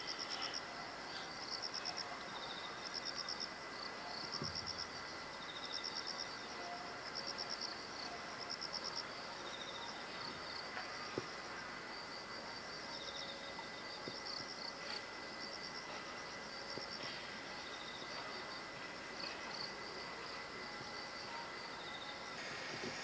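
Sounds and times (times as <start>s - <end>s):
faint high hum: 0.0s - 23.0s
insects chirping: 0.0s - 23.0s.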